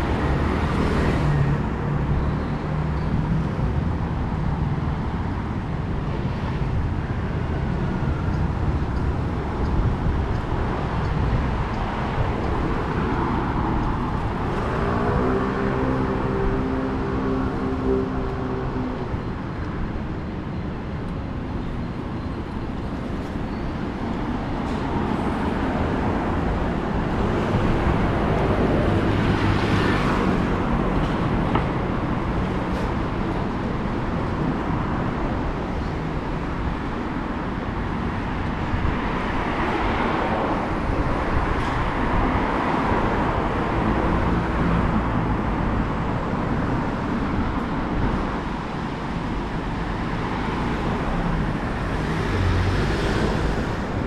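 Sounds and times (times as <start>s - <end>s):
road noise: 0.0s - 54.0s
vehicles passing: 0.0s - 54.0s.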